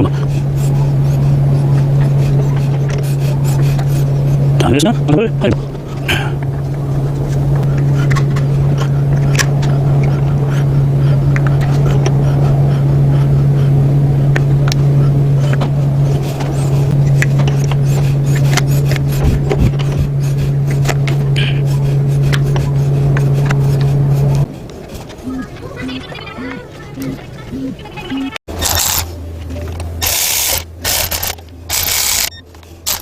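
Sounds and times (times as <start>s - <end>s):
loud machine hum: 0.0s - 24.6s, 26.4s - 33.0s.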